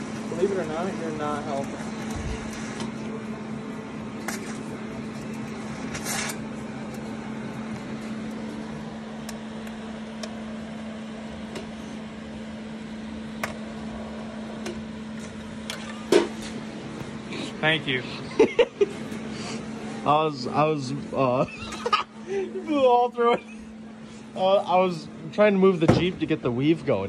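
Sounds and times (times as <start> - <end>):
welder arc hum and hiss: 0.0 - 27.0.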